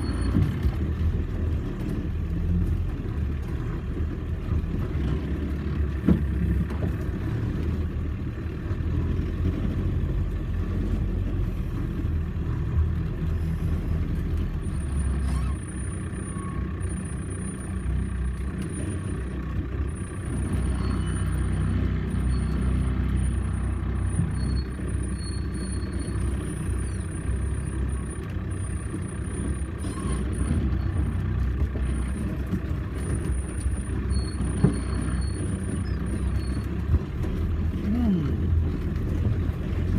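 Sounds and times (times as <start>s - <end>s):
vehicle engine running at low revs: 0.0s - 39.9s.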